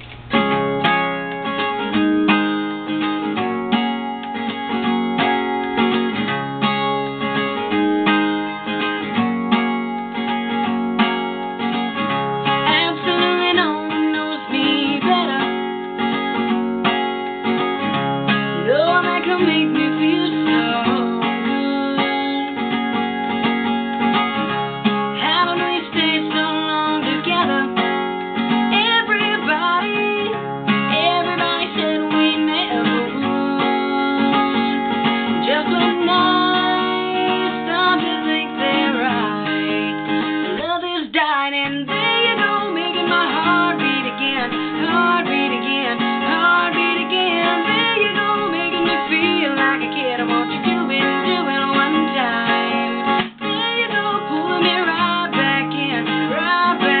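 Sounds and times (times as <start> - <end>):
strummed acoustic guitar chords: 0.0 - 57.0.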